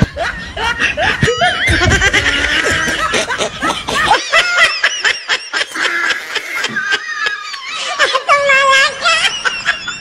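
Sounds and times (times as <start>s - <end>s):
people laughing and snickering: 0.0s - 10.0s.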